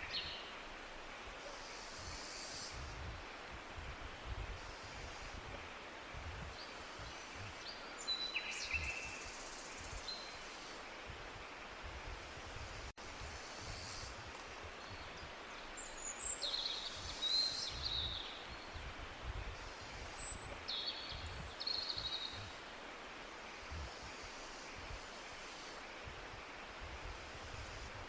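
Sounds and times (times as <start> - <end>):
tropical birds chirping: 0.0 - 28.0.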